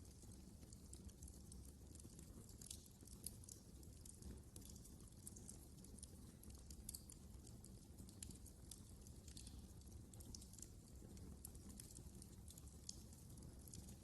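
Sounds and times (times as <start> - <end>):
low rumble of burning: 0.0 - 14.0
wood fire crackling: 0.0 - 14.0.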